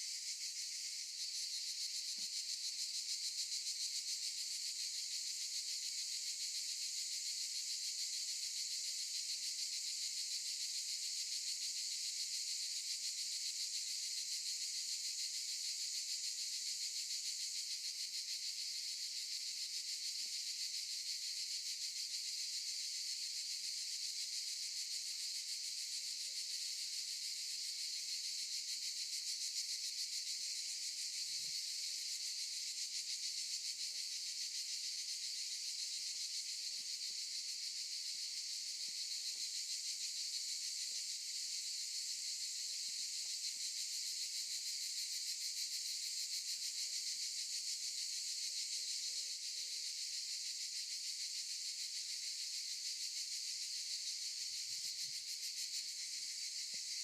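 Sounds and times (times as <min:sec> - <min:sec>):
cicadas buzzing: 0:00.0 - 0:09.6, 0:13.0 - 0:17.5, 0:18.2 - 0:26.1, 0:26.9 - 0:50.4, 0:51.0 - 0:57.0.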